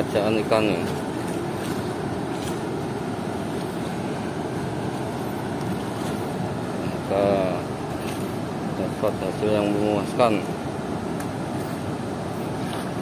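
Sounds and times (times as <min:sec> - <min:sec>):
river water rushing through sluice gates: 0:00.0 - 0:13.0.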